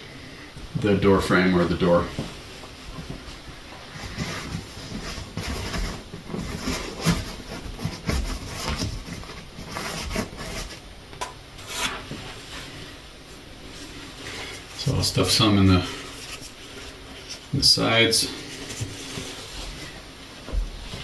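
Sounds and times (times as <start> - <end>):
paper towels rustling: 0.8 - 11.0, 11.6 - 21.0.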